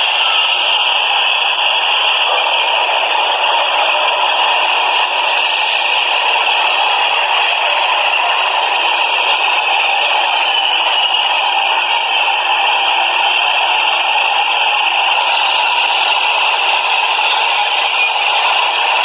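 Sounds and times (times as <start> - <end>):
subway train rattling: 0.0 - 19.0.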